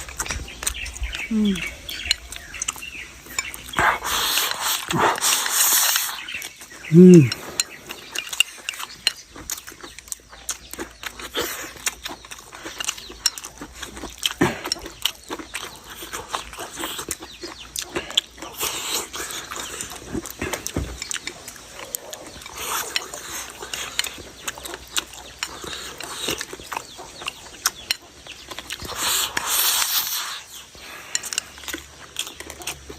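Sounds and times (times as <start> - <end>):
person chewing with lip-smacking: 0.0 - 32.9.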